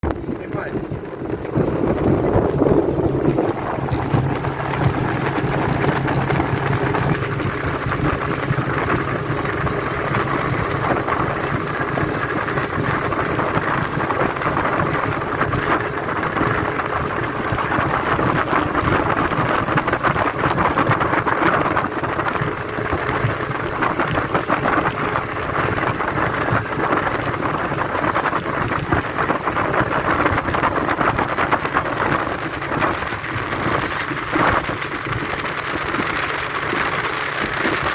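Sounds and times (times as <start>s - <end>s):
boat engine drone: 0.0s - 37.9s
wind on microphone: 0.0s - 37.9s
water spray against hull: 1.2s - 37.9s.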